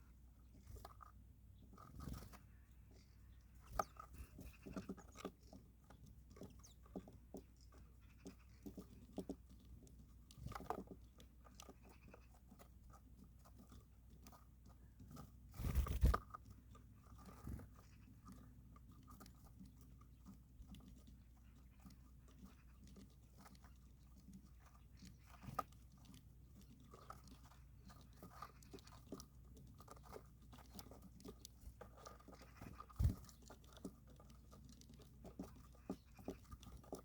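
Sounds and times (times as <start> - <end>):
birds crunching and pecking seed: 0.0 - 37.0.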